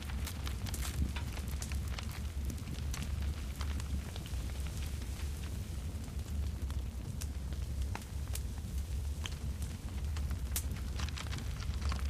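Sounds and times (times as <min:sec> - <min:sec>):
burning wood crackles: 0:00.0 - 0:12.0
campfire rumble: 0:00.0 - 0:12.0.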